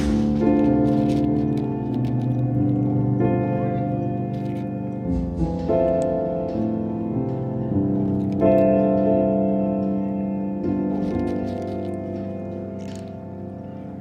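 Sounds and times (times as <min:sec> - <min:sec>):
keyboard music held chords: 0:00.0 - 0:14.0.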